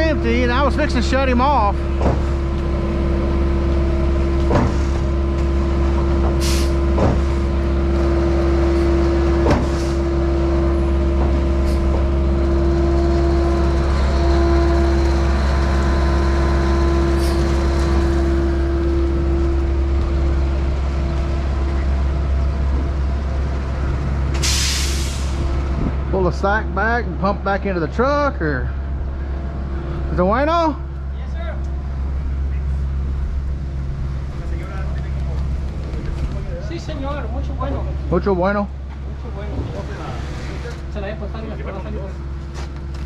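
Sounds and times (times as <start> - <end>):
concrete pump engine drone: 0.0 - 43.0.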